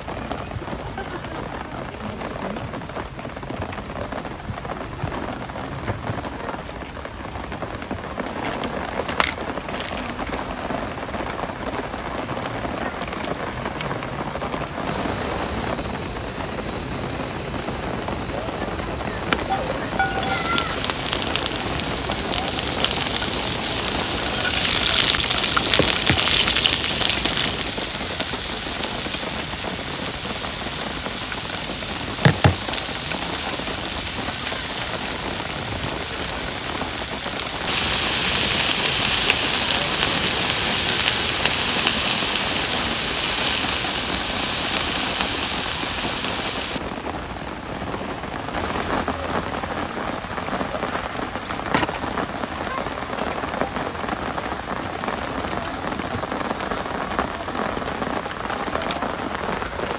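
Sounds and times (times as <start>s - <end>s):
heavy rain hiss: 0.0s - 59.9s.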